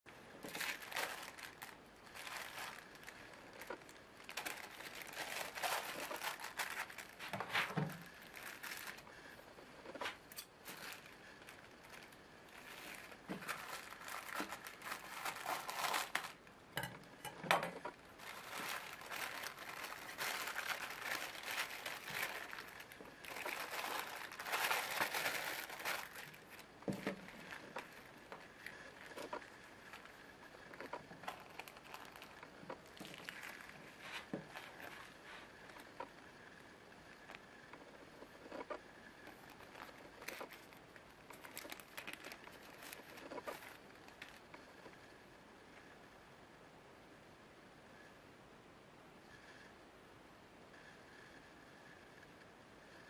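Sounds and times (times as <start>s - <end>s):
plastic packaging crinkling: 0.1s - 44.9s.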